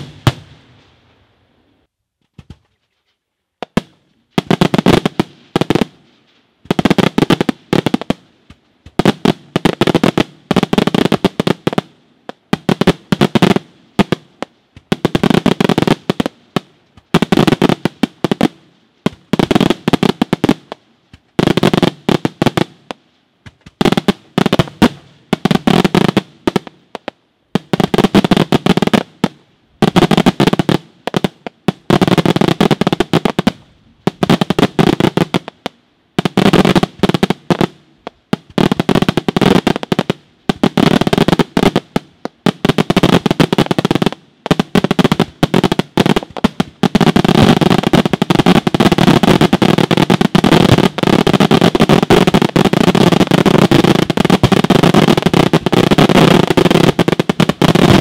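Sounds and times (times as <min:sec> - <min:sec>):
fireworks crackling bangs: 0:00.0 - 0:01.3, 0:03.6 - 0:58.0.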